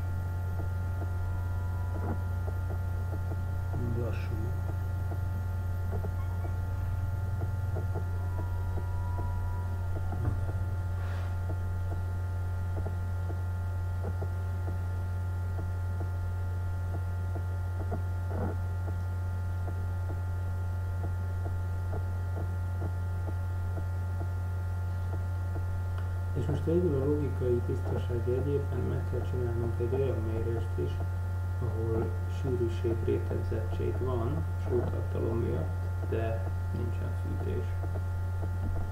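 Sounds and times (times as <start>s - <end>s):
faint steady tones: 0.0s - 38.9s
low electrical hum: 0.0s - 38.9s.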